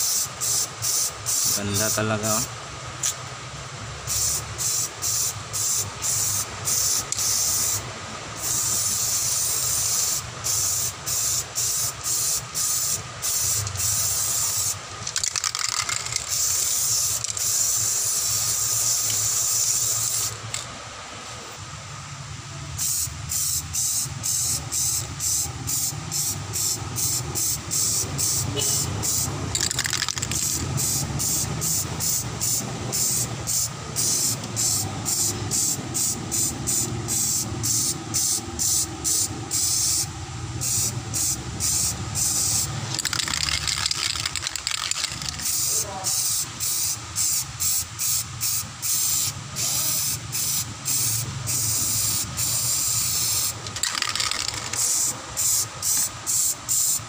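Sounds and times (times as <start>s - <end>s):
spray paint can hissing: 0.0s - 3.2s, 4.0s - 20.7s, 22.8s - 57.0s.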